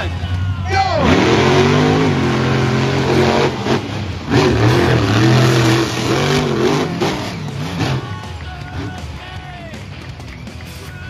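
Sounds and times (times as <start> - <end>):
monster truck engines at full throttle: 0.0 - 11.0.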